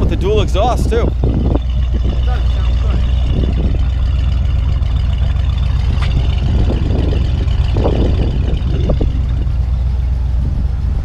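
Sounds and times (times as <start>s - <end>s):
car engine rumbling: 0.0s - 11.0s
wind noise on microphone: 0.0s - 11.0s.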